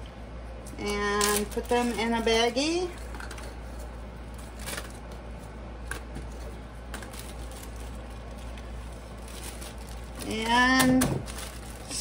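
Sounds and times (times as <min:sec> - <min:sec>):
steady low hum: 0:00.0 - 0:12.0
crackers rustling in plastic bag: 0:01.0 - 0:12.0.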